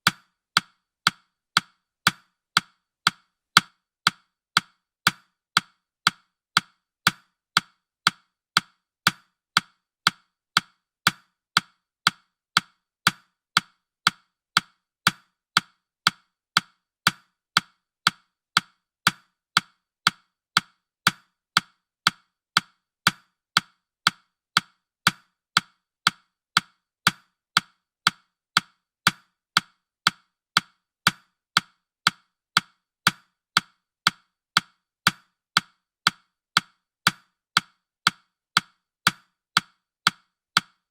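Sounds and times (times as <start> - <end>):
clock ticking: 7.1 - 40.9.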